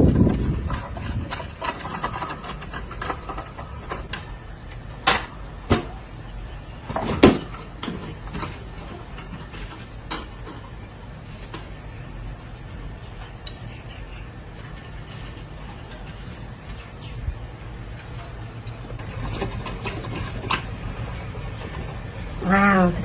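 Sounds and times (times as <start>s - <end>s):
steady high whine: 0.0s - 23.0s.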